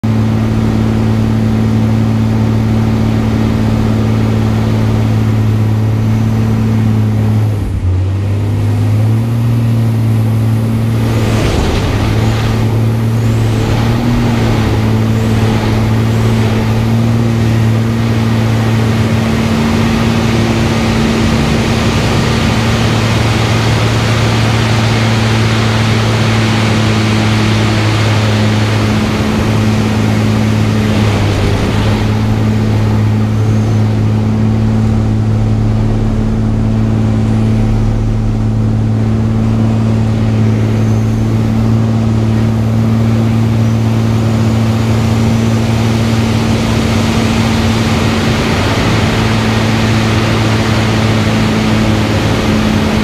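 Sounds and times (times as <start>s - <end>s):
propeller plane engine: 0.0s - 53.0s
rushing noise: 9.8s - 53.0s.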